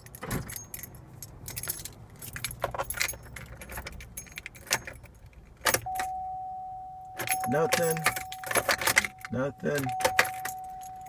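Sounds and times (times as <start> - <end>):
car keys jangling: 0.0 - 11.0.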